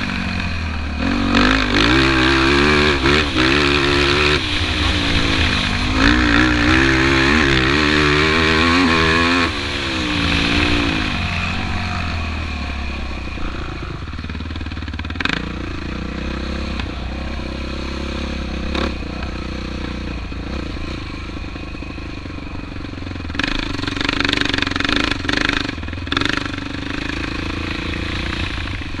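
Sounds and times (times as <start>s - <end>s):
quad engine revving: 0.0s - 29.0s.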